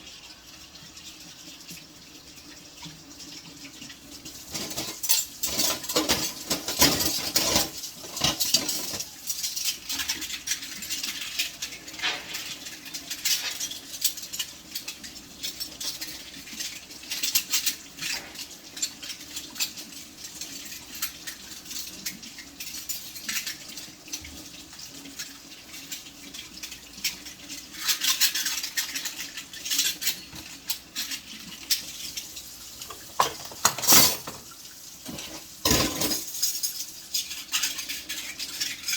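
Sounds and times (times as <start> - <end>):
dishes and cutlery clattering: 4.4 - 38.9.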